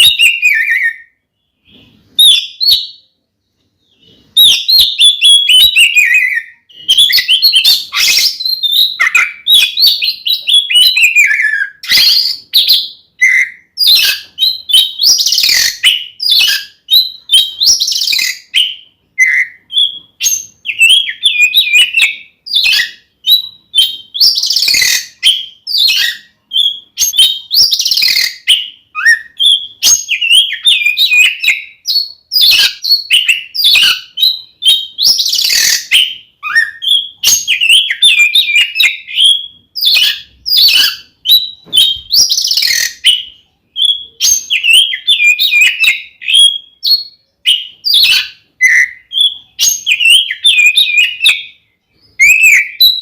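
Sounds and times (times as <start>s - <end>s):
bird singing whistled phrases: 0.0s - 3.1s, 3.8s - 53.0s.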